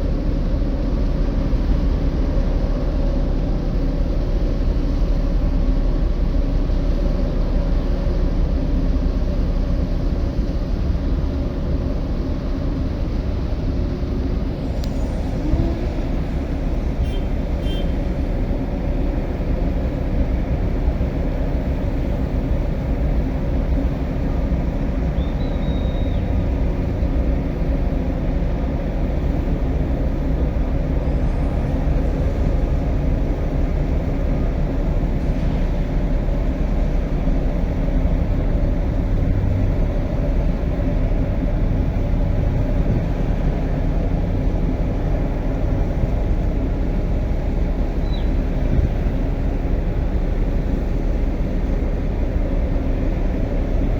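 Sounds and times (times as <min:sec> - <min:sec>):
ship diesel engines rumbling: 0:00.0 - 0:53.9.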